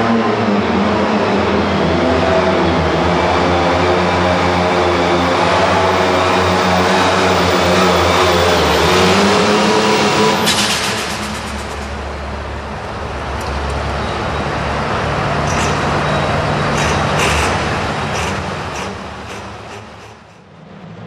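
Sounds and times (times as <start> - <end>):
tractor engine at full throttle: 1.4 - 20.5.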